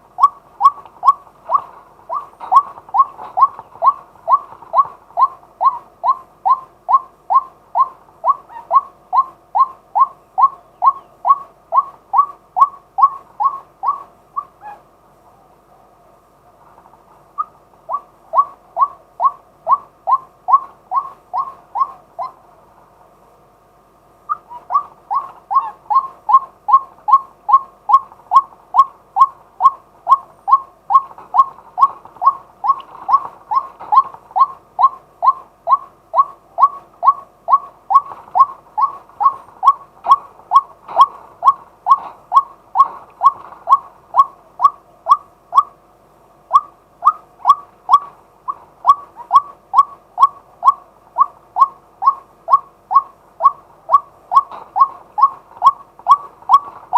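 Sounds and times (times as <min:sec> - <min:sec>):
waterhen calling loud kwak notes: 0:00.1 - 0:14.9, 0:17.4 - 0:22.4, 0:24.3 - 0:45.8, 0:46.5 - 0:56.9.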